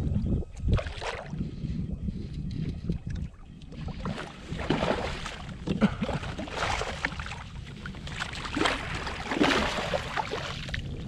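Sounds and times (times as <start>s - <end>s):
water splashing and sloshing: 0.2s - 1.6s, 2.2s - 11.0s.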